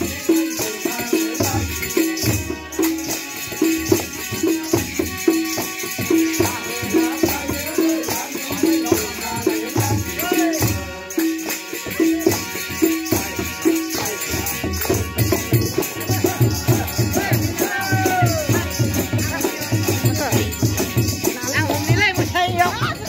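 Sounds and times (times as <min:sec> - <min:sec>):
harmonium melody: 0:00.0 - 0:23.0.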